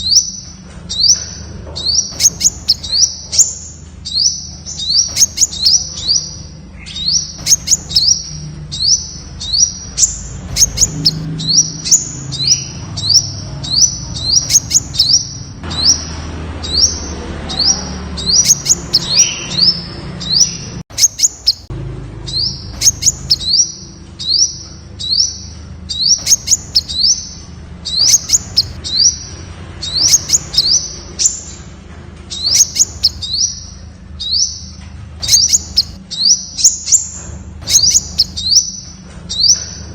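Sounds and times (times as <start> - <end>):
bird calling with high sharp notes: 0.0 - 31.6, 32.3 - 39.9.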